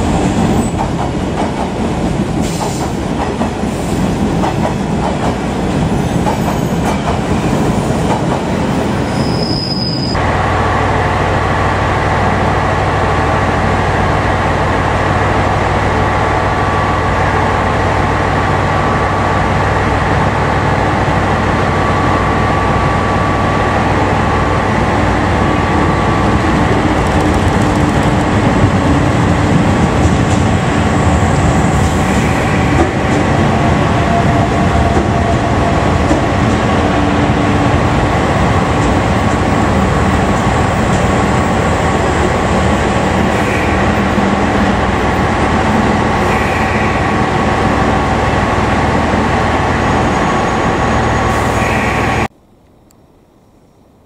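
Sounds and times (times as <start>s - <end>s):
train wheels rumbling on rails: 0.0s - 52.3s.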